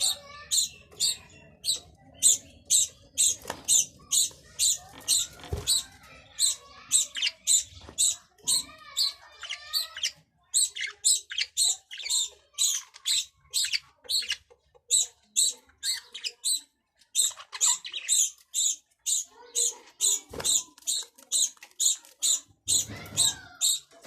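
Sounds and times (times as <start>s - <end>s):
budgerigars chirping: 0.0s - 23.9s.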